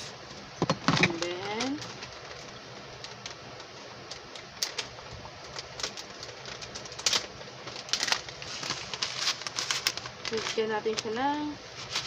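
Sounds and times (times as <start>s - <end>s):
faint steady hum: 0.0s - 12.0s
plastic sachet crinkling: 1.0s - 12.0s.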